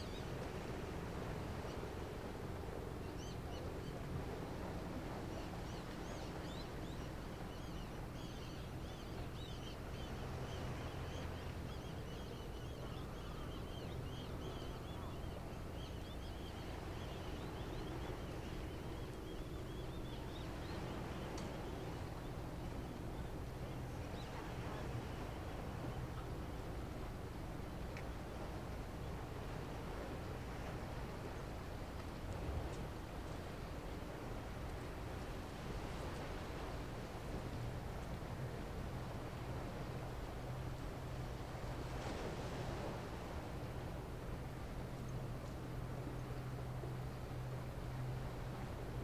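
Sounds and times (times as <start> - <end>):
low drone of ship engines: 0.0 - 49.0.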